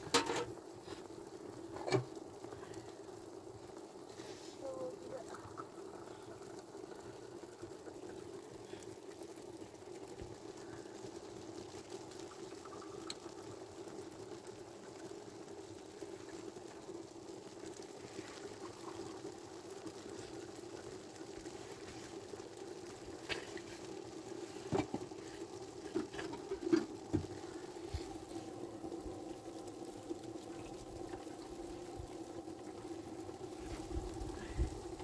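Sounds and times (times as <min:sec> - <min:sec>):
pot boiling over wood fire: 0:00.0 - 0:35.0.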